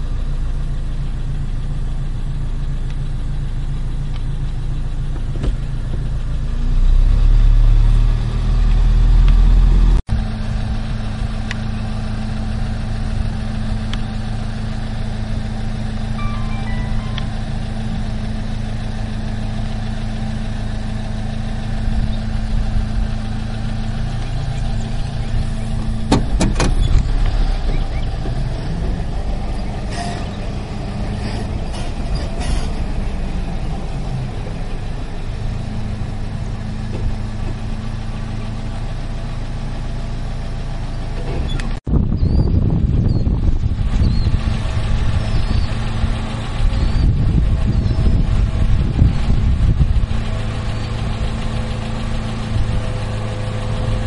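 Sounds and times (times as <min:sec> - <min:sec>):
car engine humming: 0:00.0 - 0:54.0.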